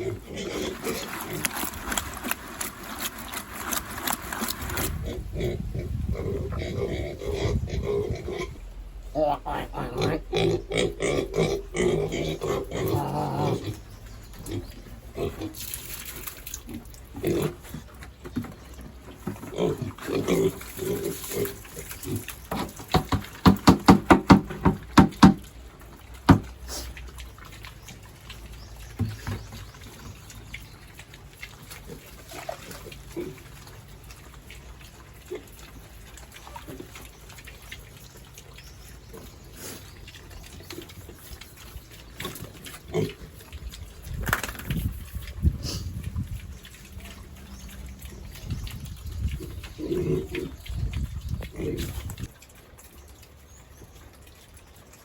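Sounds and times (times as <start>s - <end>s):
pigs grunting: 0.0s - 18.0s, 19.2s - 25.4s, 26.0s - 44.2s, 45.0s - 53.0s.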